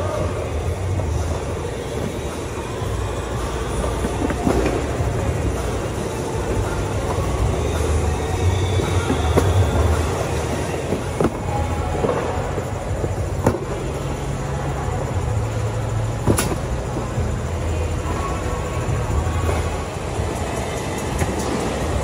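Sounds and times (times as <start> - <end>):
conveyor and machinery rumble: 0.0 - 22.0.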